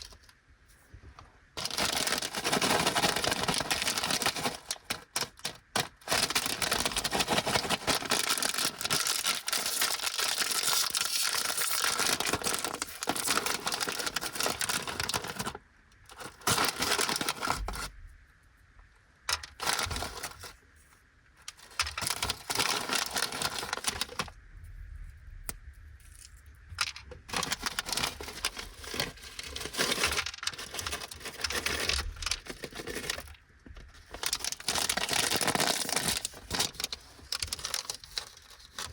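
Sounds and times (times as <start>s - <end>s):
plastic snack bags crinkling: 0.0s - 0.3s, 1.6s - 17.9s, 19.3s - 20.6s, 21.4s - 24.3s, 26.8s - 38.9s.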